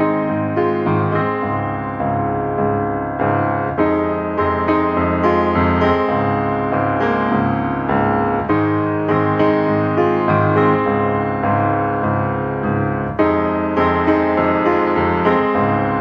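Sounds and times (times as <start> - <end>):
piano instrumental music: 0.0 - 16.0.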